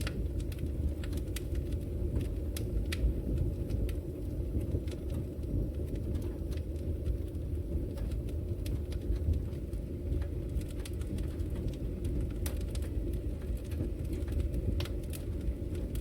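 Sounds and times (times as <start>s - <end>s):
fire crackles and pops: 0.0s - 16.0s
flames rumbling in fireplace: 0.0s - 16.0s.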